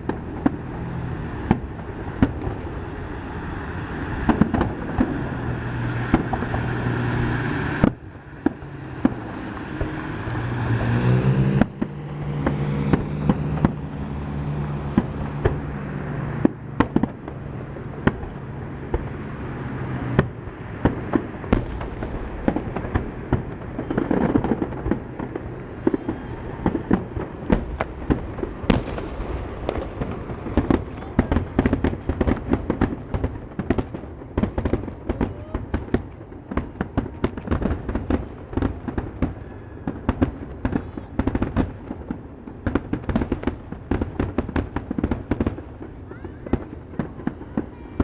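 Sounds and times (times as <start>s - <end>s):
fireworks bangs and pops: 0.0s - 48.0s.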